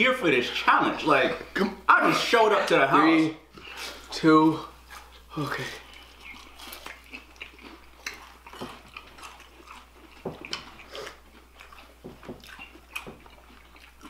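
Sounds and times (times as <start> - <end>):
people chewing: 0.5 - 14.0.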